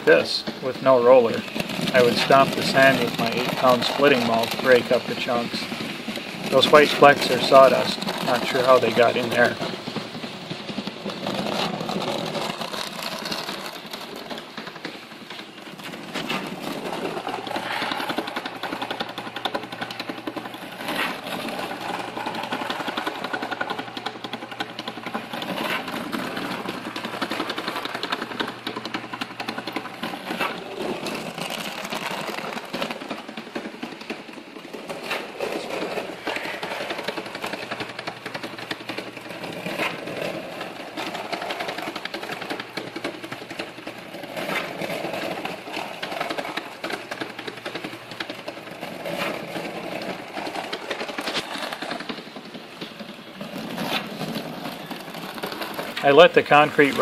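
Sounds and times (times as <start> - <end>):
fast mechanical rattle: 0.0 - 57.0
loud mechanical clacks: 0.0 - 57.0.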